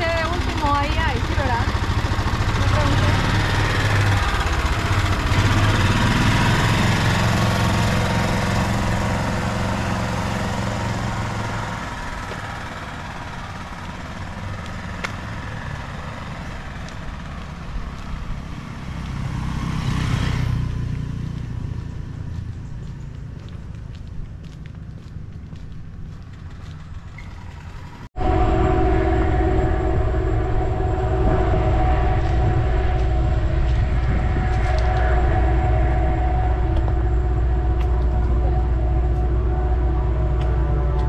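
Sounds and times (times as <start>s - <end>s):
vehicle engines running: 0.0s - 41.0s.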